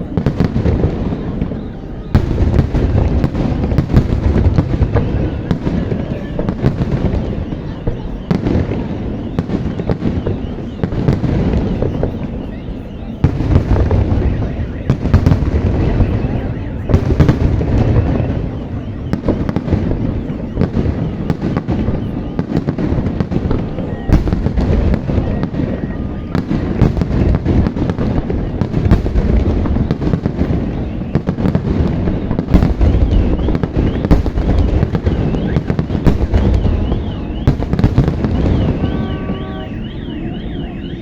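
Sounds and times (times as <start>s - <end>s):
fireworks booms and bangs: 0.0s - 41.0s
fireworks crackling: 0.0s - 41.0s.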